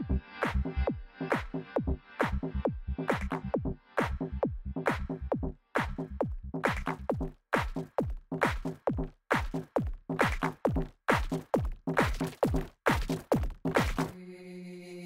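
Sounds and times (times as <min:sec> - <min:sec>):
electronic music with chopped beat: 0:00.0 - 0:14.2.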